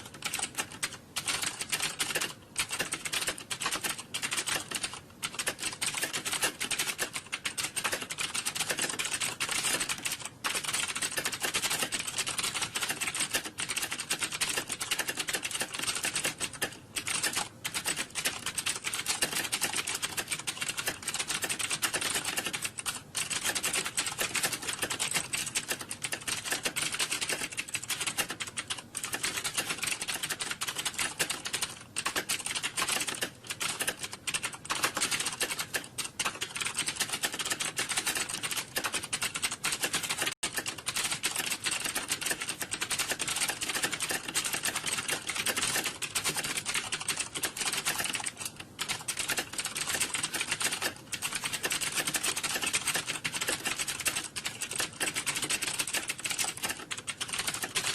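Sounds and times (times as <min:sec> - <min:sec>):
computer keyboard typing: 0:00.0 - 0:57.9.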